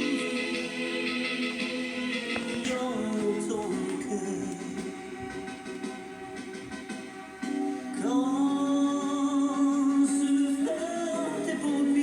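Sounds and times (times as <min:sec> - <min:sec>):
slowed song with singing voice: 0:00.0 - 0:12.0.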